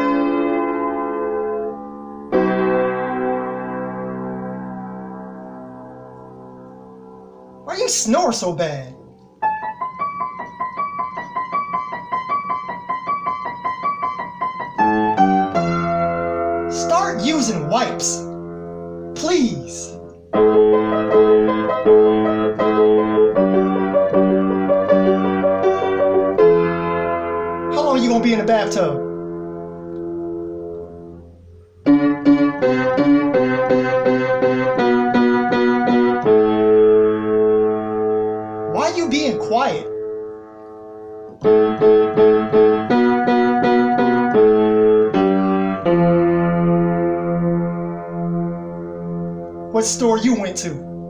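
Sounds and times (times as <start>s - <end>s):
piano notes and chords: 0.0s - 51.0s.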